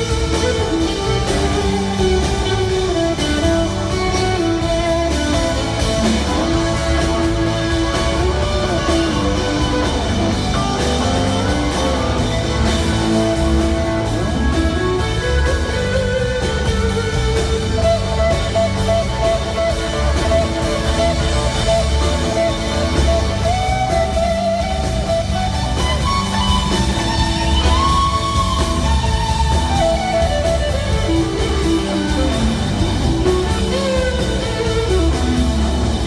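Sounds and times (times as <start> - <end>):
drum kit: 0.0 - 36.0
electric guitar lead lines: 0.0 - 36.0.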